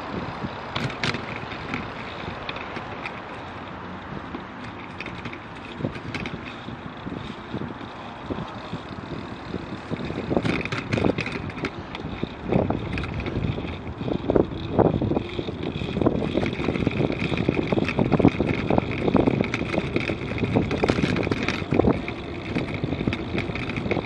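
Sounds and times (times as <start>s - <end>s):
bicycle rattles and knocks: 0.0s - 24.0s
bicycle tyre noise: 0.0s - 24.0s
wind on microphone: 0.0s - 24.0s.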